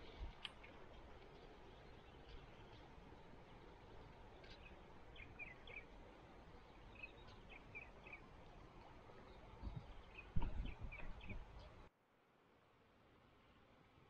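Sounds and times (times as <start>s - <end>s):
small birds chirping: 0.0s - 11.9s
steady background hiss: 0.0s - 14.0s.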